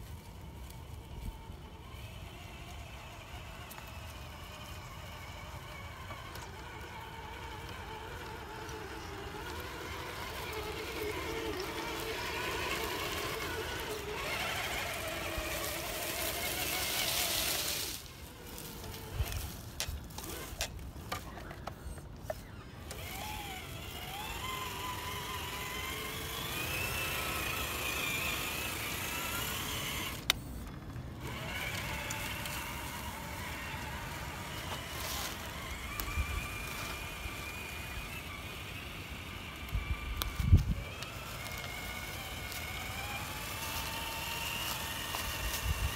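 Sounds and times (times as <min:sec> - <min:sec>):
electric motor and gears whining: 0:00.0 - 0:45.9.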